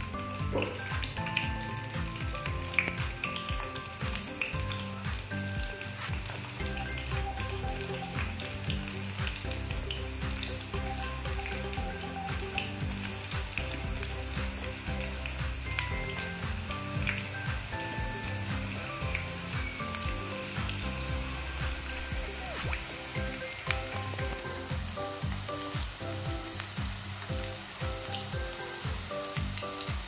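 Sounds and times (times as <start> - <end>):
fries sizzling in hot oil: 0.0 - 30.0.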